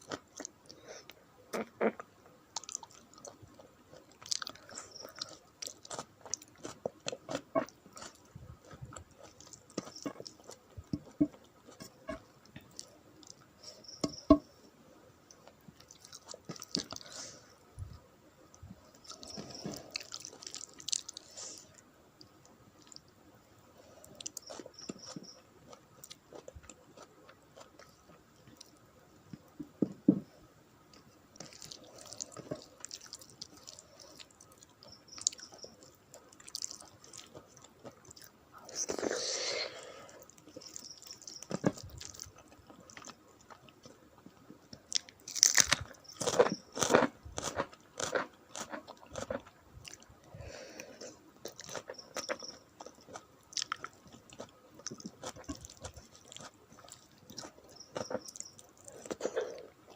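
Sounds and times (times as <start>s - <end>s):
close chewing and mouth sounds: 0.0s - 1.2s, 1.9s - 14.4s, 15.2s - 29.6s, 30.9s - 59.9s.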